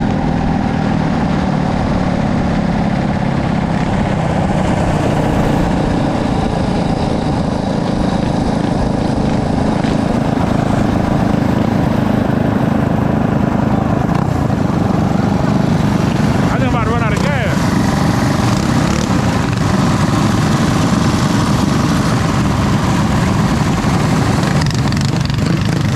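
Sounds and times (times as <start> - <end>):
small engine running: 0.1 - 25.9.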